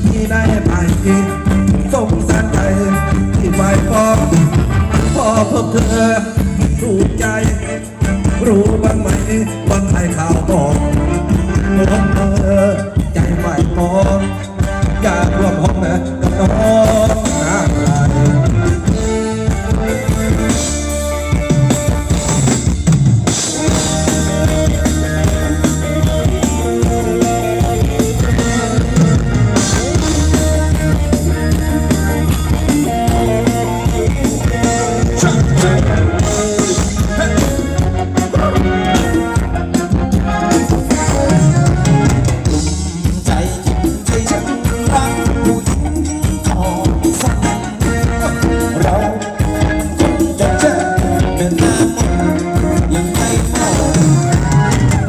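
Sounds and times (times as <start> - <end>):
person singing: 0.0 - 22.4, 23.3 - 55.0
drum kit steady beat: 0.0 - 55.0
live band playing dance music: 0.0 - 55.0.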